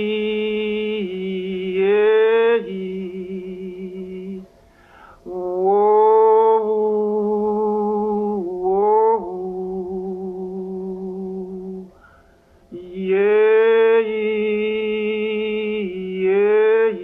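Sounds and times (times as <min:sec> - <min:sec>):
person singing long notes: 0:00.0 - 0:04.5, 0:05.2 - 0:12.0, 0:12.7 - 0:17.0.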